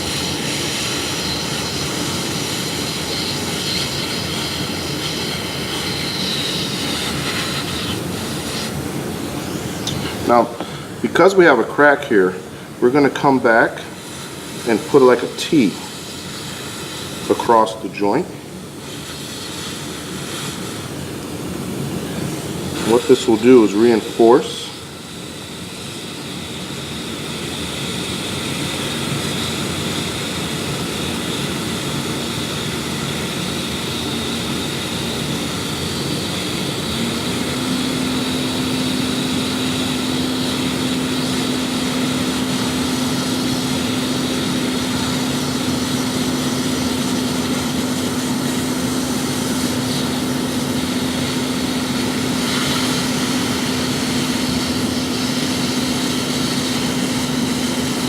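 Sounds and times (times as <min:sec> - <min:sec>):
low machine hum: 0:00.0 - 0:58.0
plastic welder hissing: 0:00.0 - 0:58.0.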